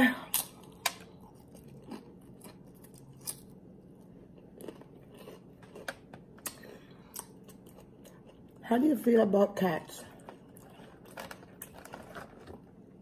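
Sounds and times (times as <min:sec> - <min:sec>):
quiet chewing: 0:00.3 - 0:08.7, 0:10.1 - 0:12.6
crunching tortilla chips: 0:00.4 - 0:08.6, 0:10.2 - 0:12.7.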